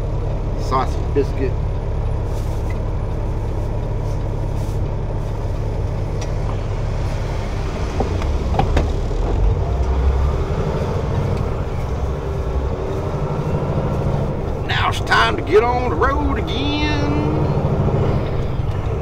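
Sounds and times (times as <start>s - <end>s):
diesel truck engine drone: 0.0s - 19.0s.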